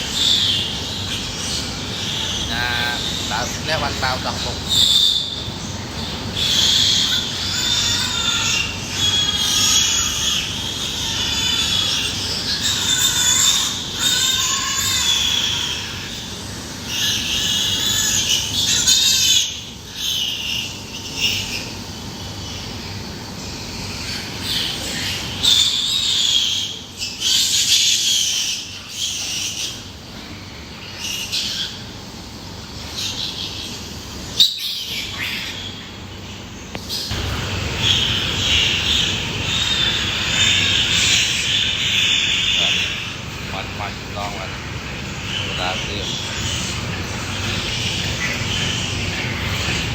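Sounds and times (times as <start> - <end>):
pigs squealing: 0.0 - 49.9.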